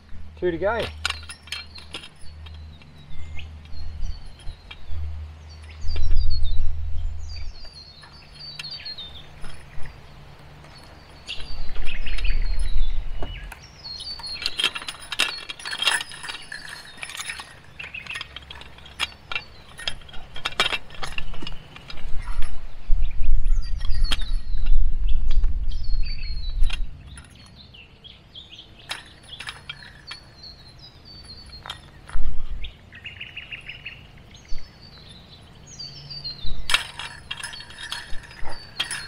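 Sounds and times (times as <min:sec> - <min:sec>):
metal springs clinking: 0:00.0 - 0:06.4, 0:07.2 - 0:27.6, 0:28.5 - 0:39.0
birds calling: 0:00.0 - 0:39.0.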